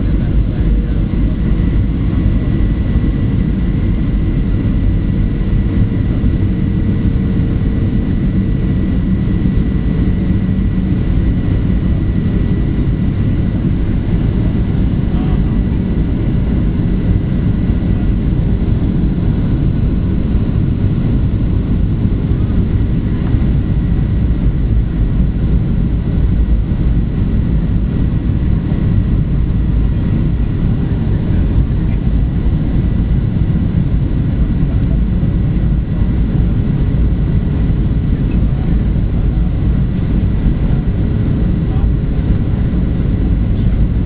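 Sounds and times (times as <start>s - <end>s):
airflow over fuselage: 0.0s - 44.0s
faint steady whine: 0.0s - 44.0s
jet engine roar: 0.0s - 44.0s.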